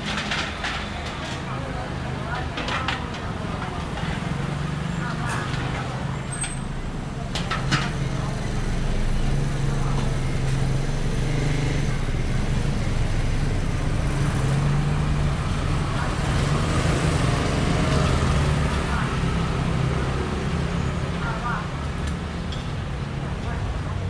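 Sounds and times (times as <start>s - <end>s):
street traffic noise: 0.0s - 24.0s.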